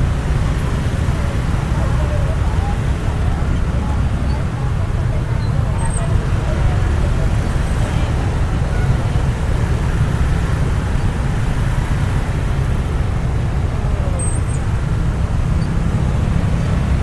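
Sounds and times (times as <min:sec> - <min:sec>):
slow road traffic rumble: 0:00.0 - 0:17.0.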